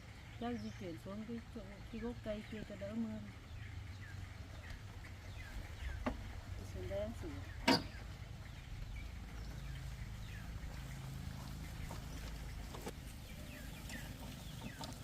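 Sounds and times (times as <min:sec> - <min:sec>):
birds chirping: 0:00.0 - 0:15.0
low outdoor background rumble: 0:00.0 - 0:15.0.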